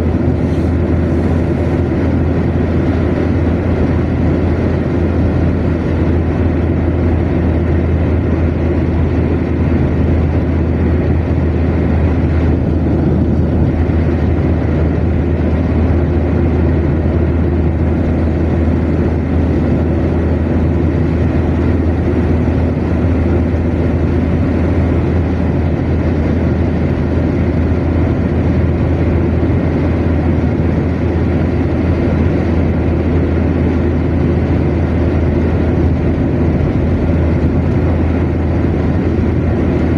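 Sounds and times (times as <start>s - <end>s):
car cruising road drone: 0.0s - 39.9s.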